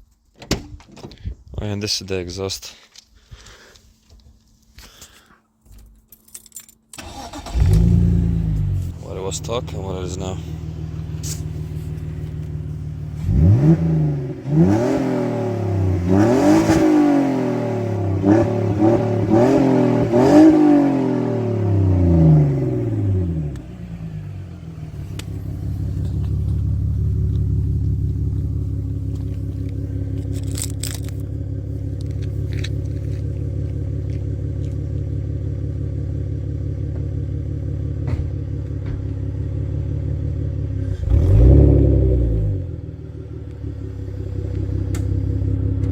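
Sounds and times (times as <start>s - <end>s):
car engine revving and idling: 7.0s - 45.9s.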